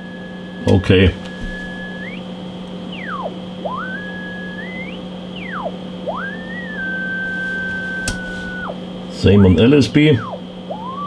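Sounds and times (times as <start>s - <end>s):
steady low hum: 0.0s - 11.0s
radio whistling beat tone: 0.5s - 2.2s, 2.9s - 11.0s.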